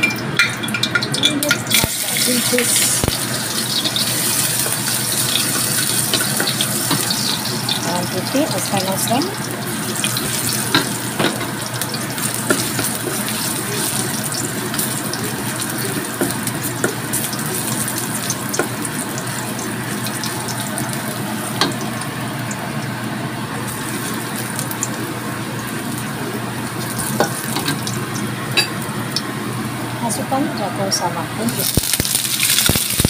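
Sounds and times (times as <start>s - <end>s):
garlic sizzling in hot oil: 0.0s - 33.0s.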